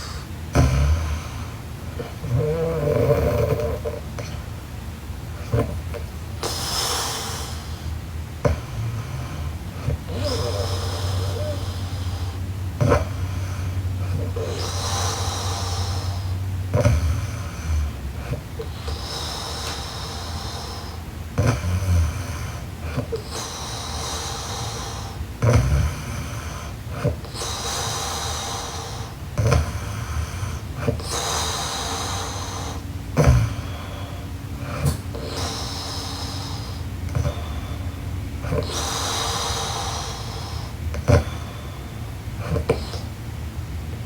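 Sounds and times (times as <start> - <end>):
woman snoring: 0.0 - 4.4, 5.4 - 43.1.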